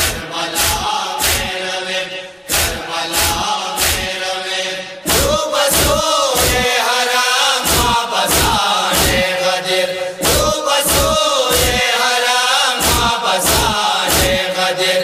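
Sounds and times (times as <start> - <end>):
group chanting in unison: 0.0 - 15.0
rhythmic chest-beating: 0.0 - 15.0.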